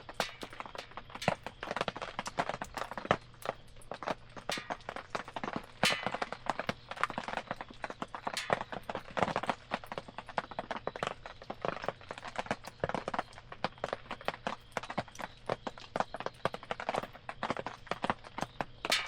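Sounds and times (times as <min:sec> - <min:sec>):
wood campfire crackling: 0:00.0 - 0:19.0.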